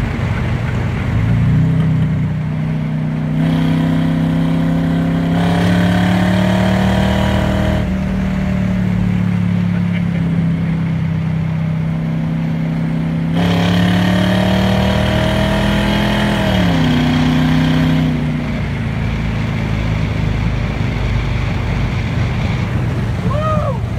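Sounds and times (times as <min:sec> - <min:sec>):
car engine and exhaust: 0:00.0 - 0:23.9.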